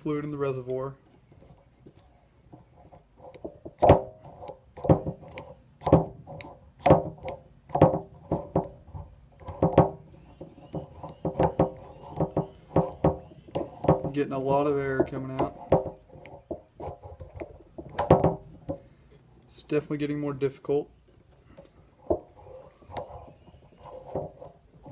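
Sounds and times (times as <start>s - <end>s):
sharp clicks of hand pump: 0.6s - 18.9s, 21.2s - 24.9s.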